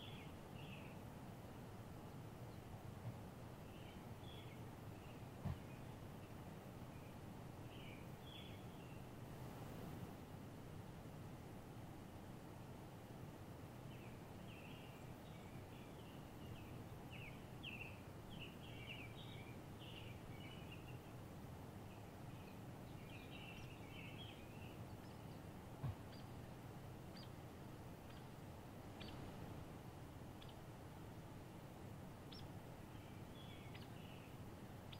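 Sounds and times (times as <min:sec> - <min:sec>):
faint low background noise: 0:00.0 - 0:34.9
songbirds chirping: 0:00.0 - 0:34.9.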